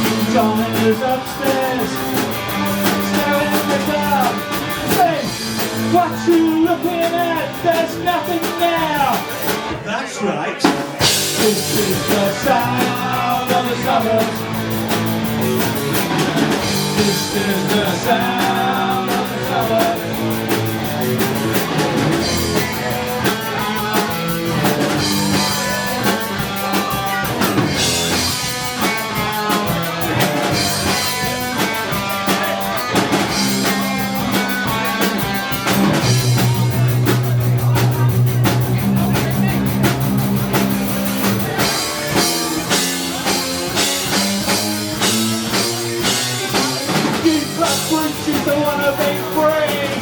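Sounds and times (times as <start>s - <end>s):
drum beat: 0.0s - 9.8s, 10.6s - 50.0s
electric guitar: 0.0s - 9.8s, 10.8s - 50.0s
bass guitar: 0.0s - 10.0s, 10.6s - 50.0s.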